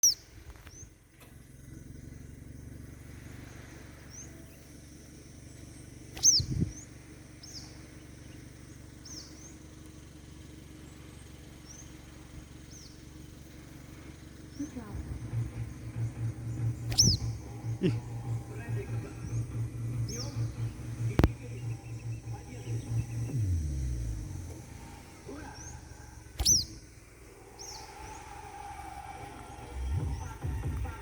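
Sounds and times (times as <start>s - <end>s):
bird chirping: 0.0s - 31.0s
low rumble: 0.1s - 31.0s.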